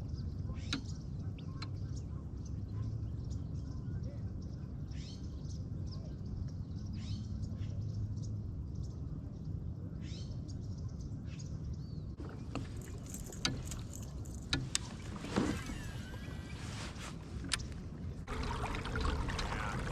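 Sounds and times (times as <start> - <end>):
small birds chirping: 0.0 - 18.2
low steady rumble: 0.0 - 19.9.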